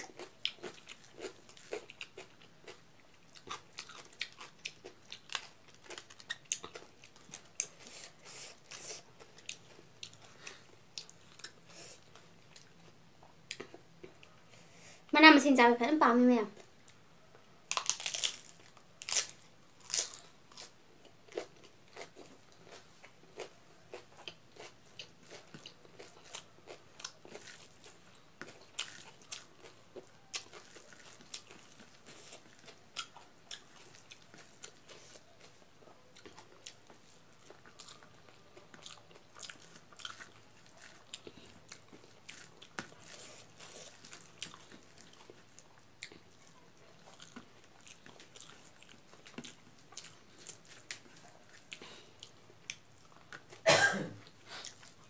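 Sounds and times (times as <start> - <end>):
crunchy chewing: 0.0 - 14.4, 16.6 - 53.6, 54.2 - 55.0.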